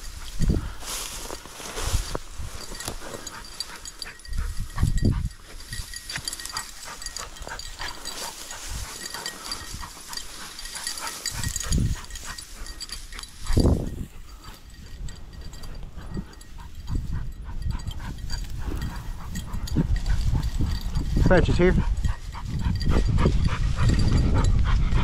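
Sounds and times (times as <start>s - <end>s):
footsteps through dry grass: 0.0s - 24.6s
dull low thumps: 1.9s - 25.0s.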